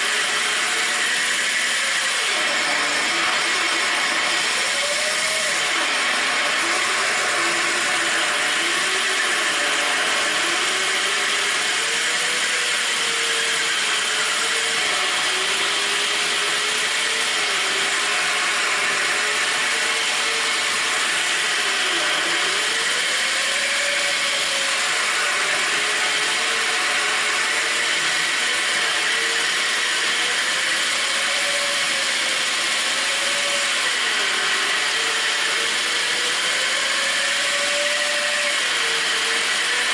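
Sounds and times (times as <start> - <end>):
drill bit grinding into tile: 0.0 - 39.9
drill motor hum: 0.0 - 39.9.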